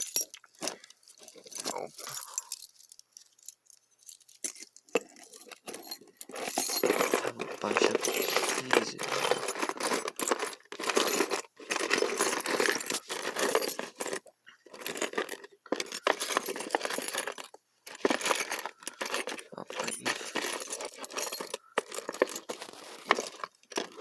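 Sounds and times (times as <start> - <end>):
metal keys jangling: 0.0 - 14.2, 18.2 - 24.0.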